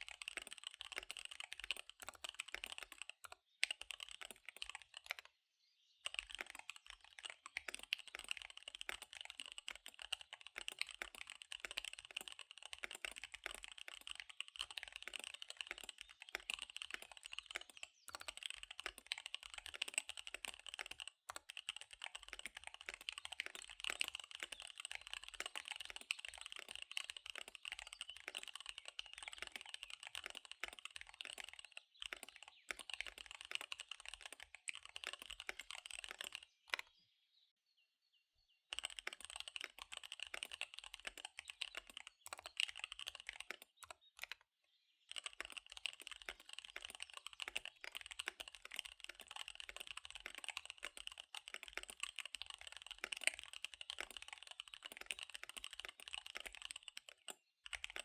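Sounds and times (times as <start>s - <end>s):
fast typing on mechanical keyboard: 0.0s - 5.3s, 6.0s - 36.9s, 38.7s - 44.4s, 45.1s - 58.0s.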